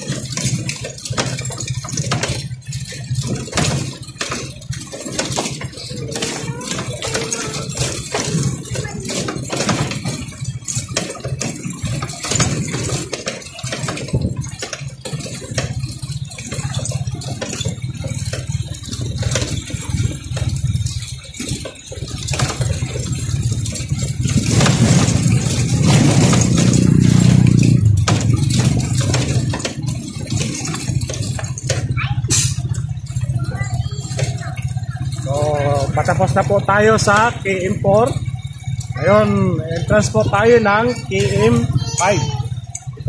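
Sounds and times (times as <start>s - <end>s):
motorcycle engine running: 0.0s - 43.0s
motorcycle rattling over stones: 0.0s - 43.0s.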